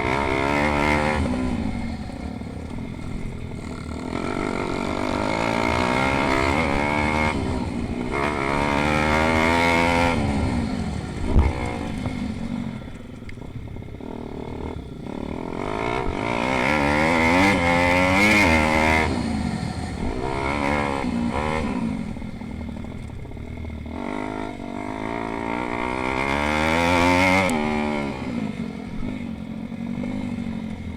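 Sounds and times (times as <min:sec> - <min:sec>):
pit bike engines revving: 0:00.0 - 0:30.9.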